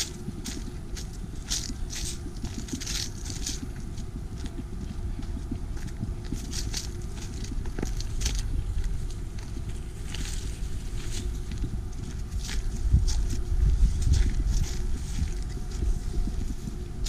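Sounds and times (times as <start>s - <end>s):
footsteps crunching on dry trail: 0.0s - 17.0s
low steady rumble: 0.0s - 17.0s.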